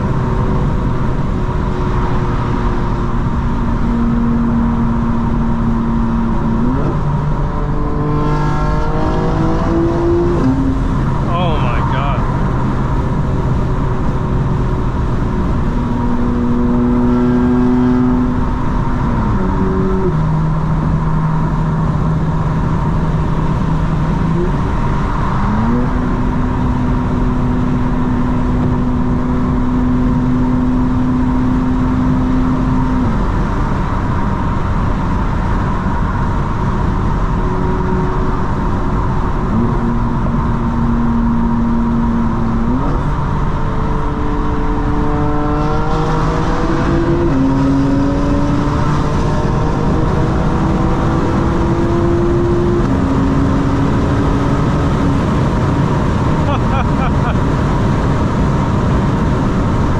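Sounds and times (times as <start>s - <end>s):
car engine cruising: 0.0s - 59.9s
tyre and road noise: 0.0s - 59.9s.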